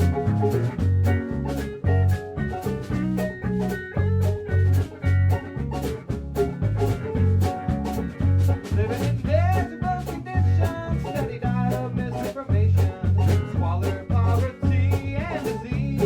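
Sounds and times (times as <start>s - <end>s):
live swing band music: 0.0s - 16.0s.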